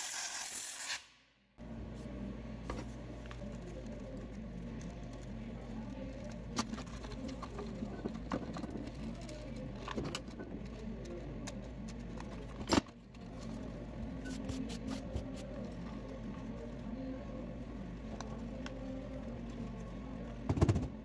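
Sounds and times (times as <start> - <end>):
steady low hum: 1.5 - 21.0.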